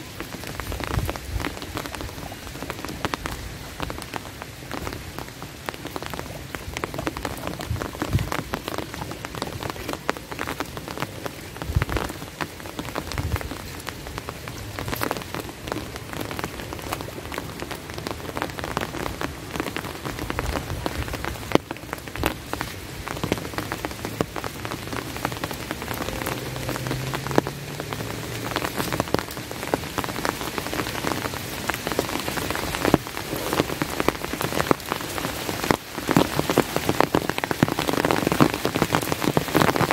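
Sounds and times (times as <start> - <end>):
raindrops tapping close by: 0.0 - 39.9
steady rain hiss: 0.0 - 39.9.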